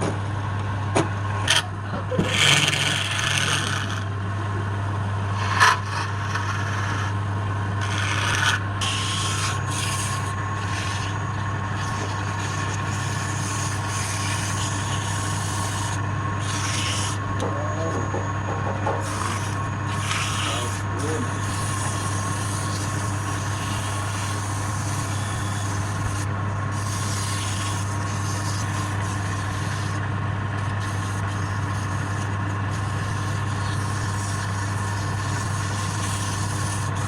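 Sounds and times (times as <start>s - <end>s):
tool scraping spinning wood: 1.4s - 4.2s, 5.2s - 37.0s
wood lathe humming: 1.4s - 37.0s.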